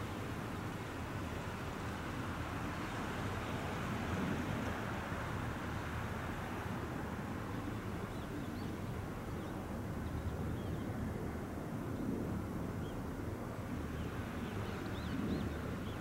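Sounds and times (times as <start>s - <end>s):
distant road traffic: 0.0s - 16.0s
wind: 0.0s - 16.0s.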